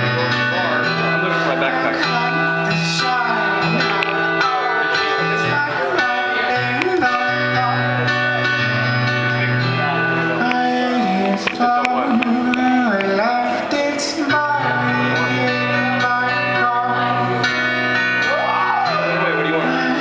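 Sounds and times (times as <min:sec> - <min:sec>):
keyboard chords and bass: 0:00.0 - 0:20.0
man singing: 0:00.0 - 0:20.0.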